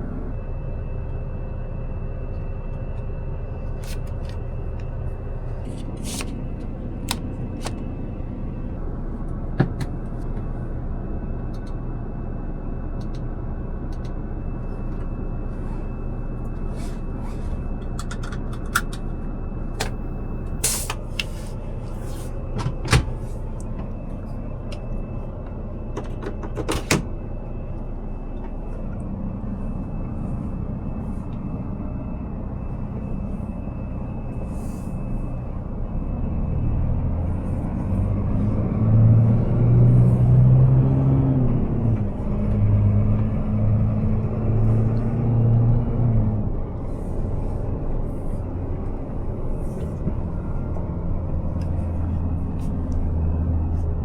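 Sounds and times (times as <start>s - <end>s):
truck diesel engine idling: 0.0s - 38.4s, 46.3s - 54.0s.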